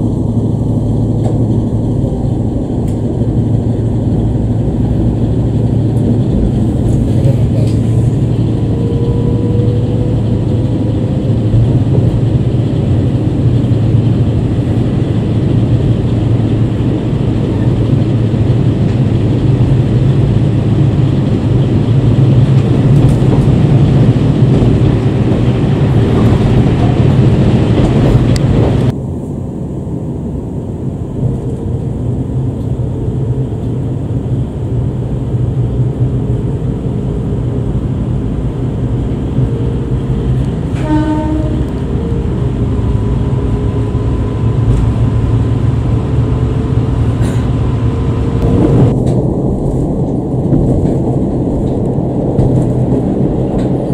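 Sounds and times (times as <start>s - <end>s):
diesel railcar engine hum: 0.0s - 53.9s
rail running noise: 0.0s - 53.9s.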